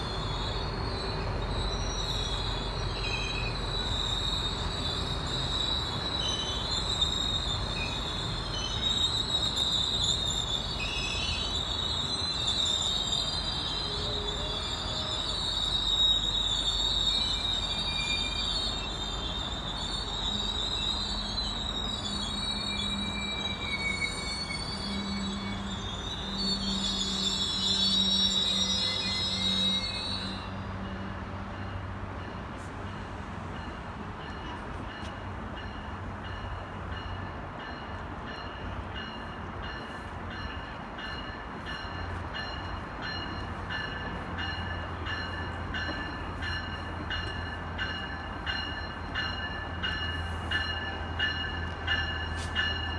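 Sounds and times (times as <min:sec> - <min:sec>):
rumble of train cars: 0:00.0 - 0:52.9
train wheels squealing: 0:00.0 - 0:52.9.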